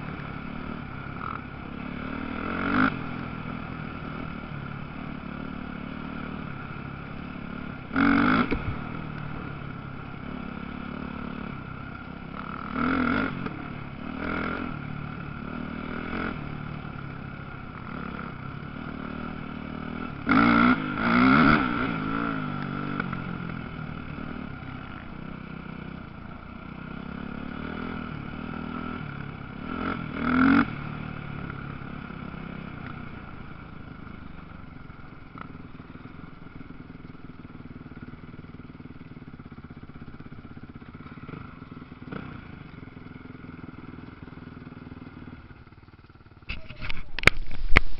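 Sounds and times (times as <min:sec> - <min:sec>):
dirt bike revving close by: 0:00.0 - 0:45.6
dirt bike engines droning: 0:00.0 - 0:47.9.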